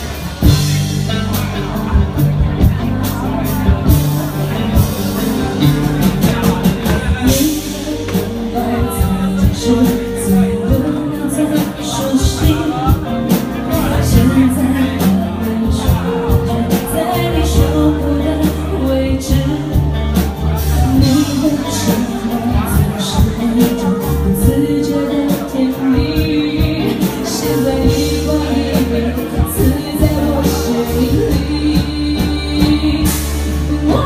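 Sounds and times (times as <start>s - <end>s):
live band with drums and bass: 0.0s - 34.0s
person singing: 0.0s - 34.0s.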